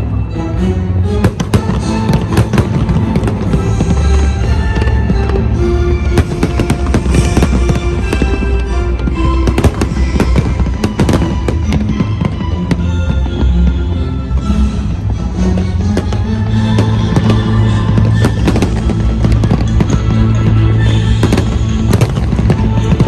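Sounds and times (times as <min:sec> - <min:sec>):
music with long held notes: 0:00.0 - 0:23.0
fireworks bangs and crackles: 0:01.2 - 0:23.0.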